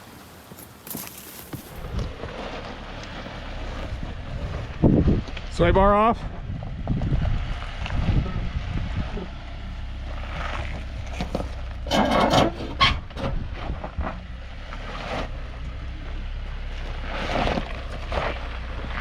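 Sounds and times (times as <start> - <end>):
rocks crunching and scraping: 0.0 - 5.7, 9.1 - 19.0
vehicle engine low rumble: 0.0 - 19.0.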